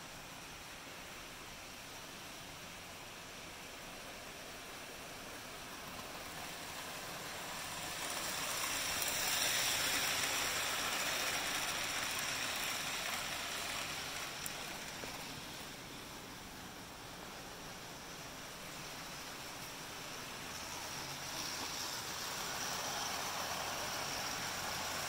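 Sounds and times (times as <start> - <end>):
model train wheels whirring: 0.0 - 25.0.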